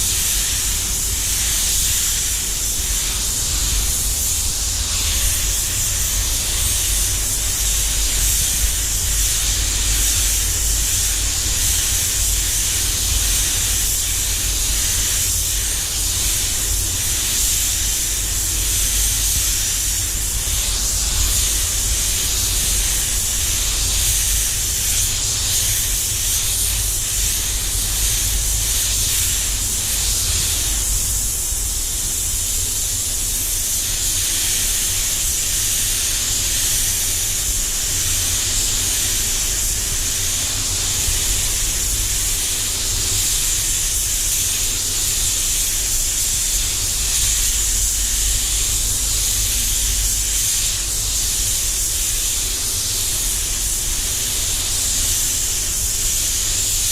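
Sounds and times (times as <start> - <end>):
spray gun hissing: 0.0 - 56.9.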